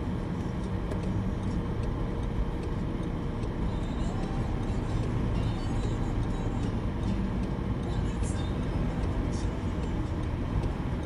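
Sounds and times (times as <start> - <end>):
car engine rumble: 0.0 - 11.0
tyres on snowy road: 0.0 - 11.0.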